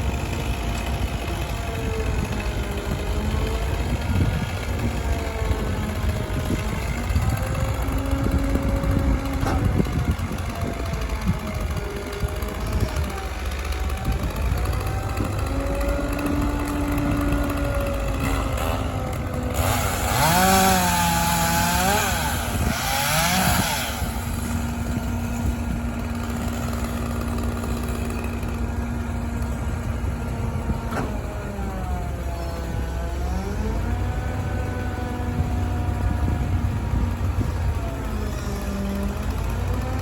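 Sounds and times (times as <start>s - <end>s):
chainsaw revving: 0.0s - 40.0s
steady engine hum: 0.0s - 40.0s.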